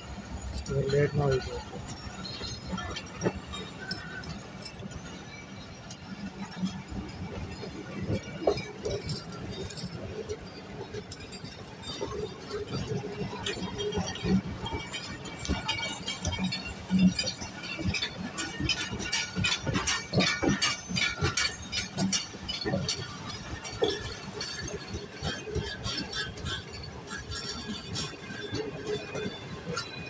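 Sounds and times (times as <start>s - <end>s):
train wheels clattering over rail joints: 0.1s - 30.0s
metallic clanks and clinks: 0.2s - 30.0s.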